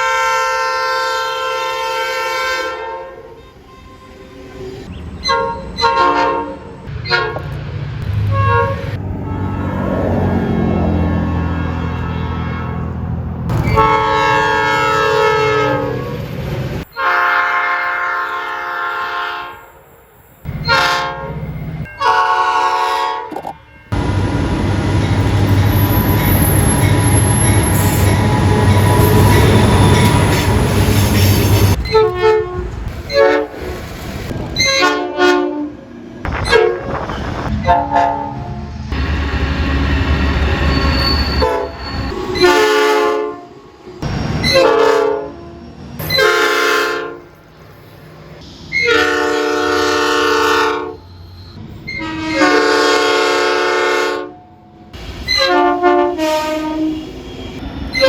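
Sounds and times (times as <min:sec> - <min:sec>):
train horn blasts: 0:00.0 - 0:04.4, 0:05.2 - 0:19.9, 0:20.5 - 0:24.2, 0:25.7 - 0:33.6, 0:34.6 - 0:43.8, 0:44.4 - 0:47.4, 0:48.7 - 0:54.6, 0:55.3 - 0:58.0
running train rumble: 0:00.0 - 0:58.0.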